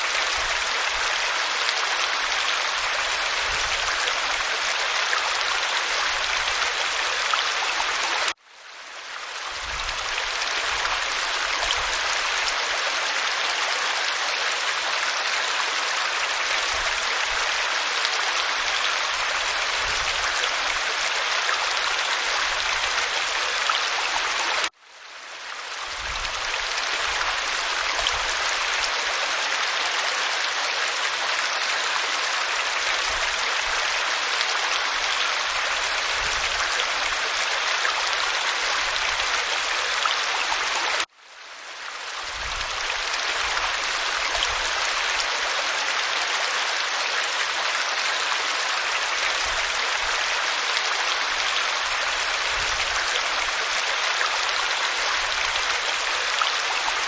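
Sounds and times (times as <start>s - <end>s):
waterfall pouring over rock: 0.0s - 8.4s, 9.0s - 24.8s, 25.4s - 41.1s, 41.7s - 57.0s.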